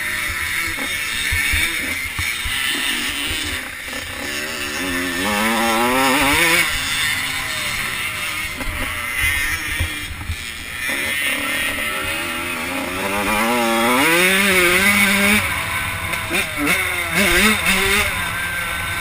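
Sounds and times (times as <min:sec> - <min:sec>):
engine revving whine: 0:00.0 - 0:19.0
motocross bikes racing: 0:00.0 - 0:19.0.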